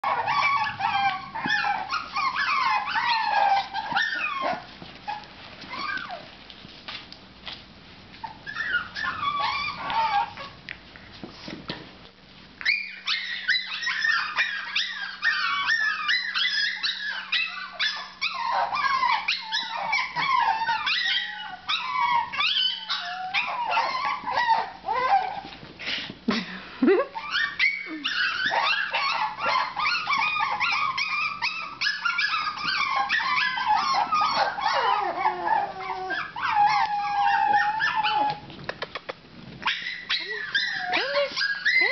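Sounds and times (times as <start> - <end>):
puppies whining and yipping: 0.0 - 6.4, 8.1 - 10.6, 12.6 - 25.6, 27.1 - 38.6, 39.6 - 41.9.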